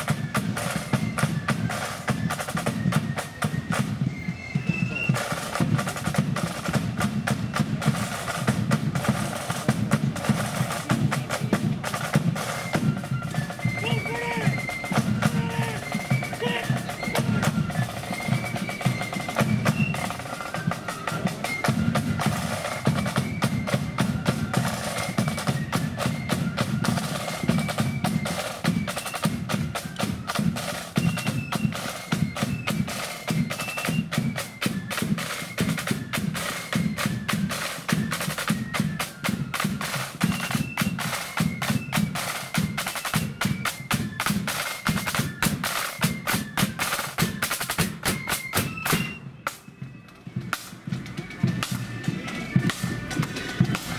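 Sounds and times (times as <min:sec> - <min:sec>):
flutes playing high tune: 0:00.0 - 0:53.9
snare drums rolling: 0:00.0 - 0:53.9.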